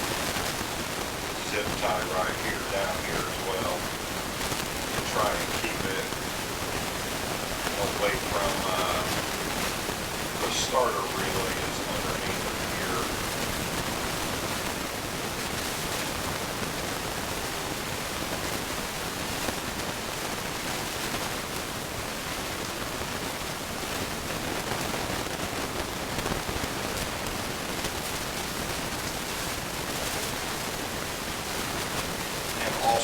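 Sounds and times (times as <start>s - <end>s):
steady background hiss: 0.0s - 25.9s, 27.9s - 33.0s.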